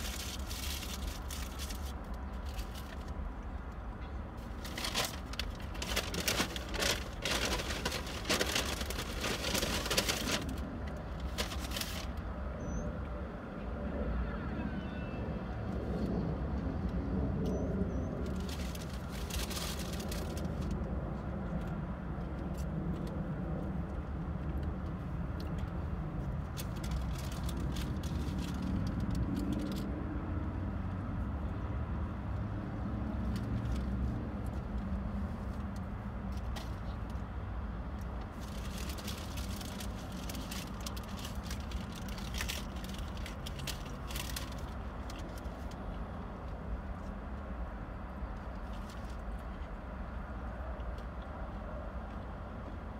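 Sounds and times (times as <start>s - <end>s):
road traffic rumble: 0.0s - 52.9s.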